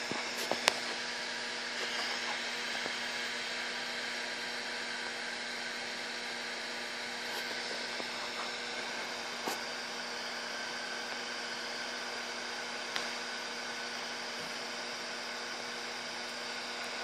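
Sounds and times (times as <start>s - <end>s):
gas burner flames hissing: 0.0s - 17.0s
steady low hum: 0.0s - 17.0s.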